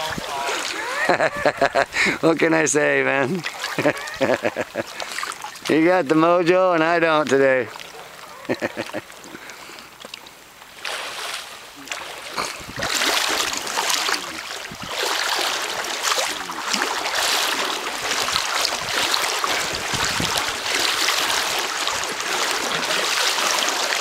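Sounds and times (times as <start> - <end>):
river water rushing: 0.0 - 6.0, 10.2 - 24.0.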